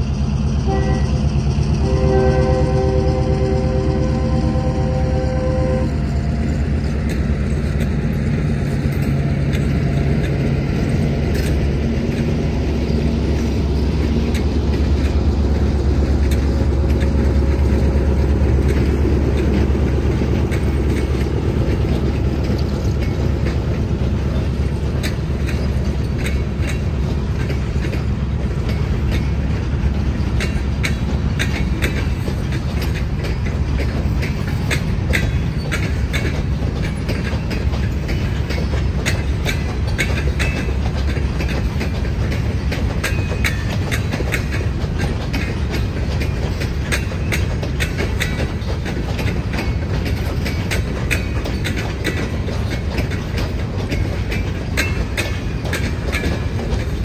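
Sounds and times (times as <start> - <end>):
freight train rumble: 0.0 - 57.0
wheels clicking over rail joints: 0.7 - 57.0.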